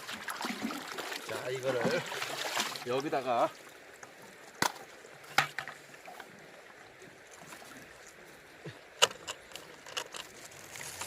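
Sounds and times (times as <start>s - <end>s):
river water rushing: 0.0s - 9.9s.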